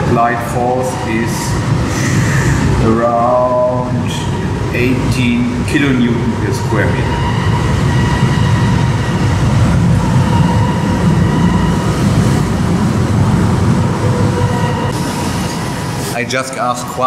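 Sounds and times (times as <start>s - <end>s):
press drive droning with whine: 0.0s - 16.4s.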